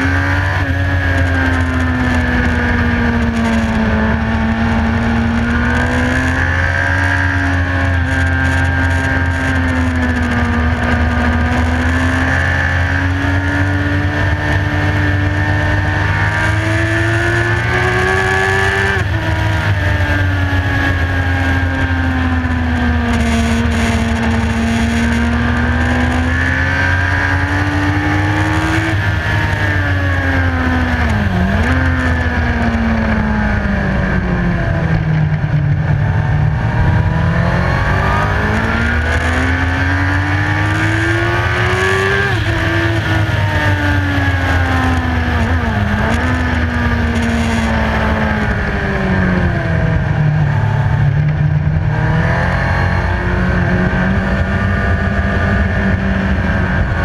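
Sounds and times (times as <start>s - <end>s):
motorcycle engine revving: 0.0s - 57.0s
wind rumble on microphone: 0.0s - 57.0s.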